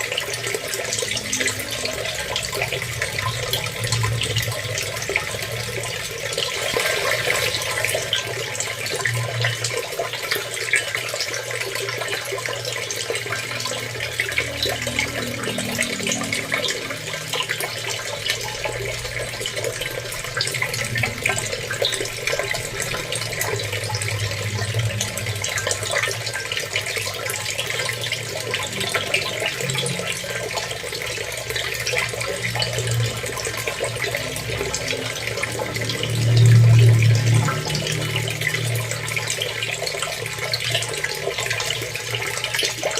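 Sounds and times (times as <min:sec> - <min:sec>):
water running with splashes: 0:00.0 - 0:42.9.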